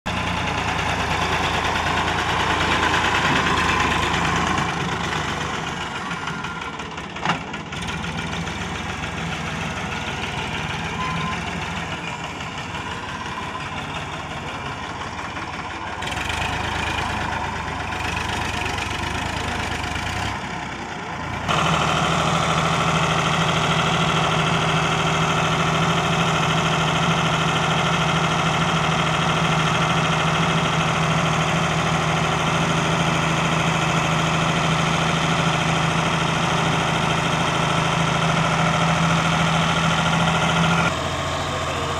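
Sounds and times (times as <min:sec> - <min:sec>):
tractor diesel engine running: 0:00.1 - 0:41.9.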